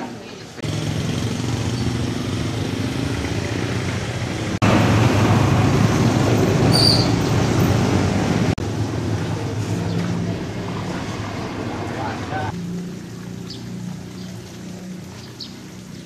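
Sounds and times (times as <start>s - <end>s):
vehicle rumble with hiss: 0.2s - 16.0s.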